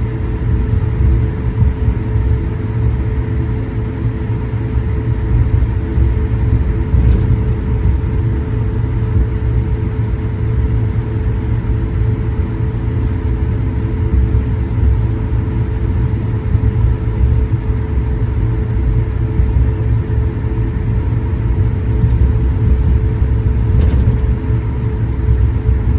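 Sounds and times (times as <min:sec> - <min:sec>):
airplane cabin engine rumble: 0:00.0 - 0:25.9
steady hum: 0:00.0 - 0:25.9.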